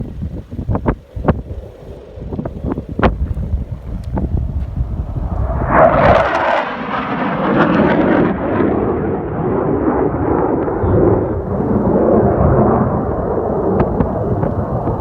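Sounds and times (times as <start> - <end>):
jet plane roaring overhead: 0.0 - 15.0.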